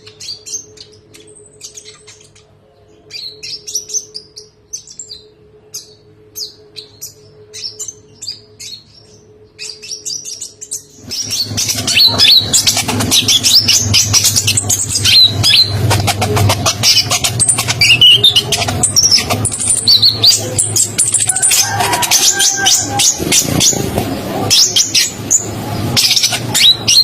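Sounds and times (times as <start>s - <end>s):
bird chirping: 0.0s - 27.0s
noisy background: 0.0s - 27.0s.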